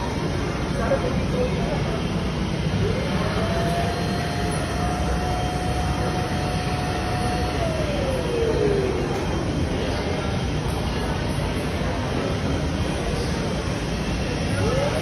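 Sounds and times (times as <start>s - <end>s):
cotton candy machine whirring: 0.0s - 15.0s.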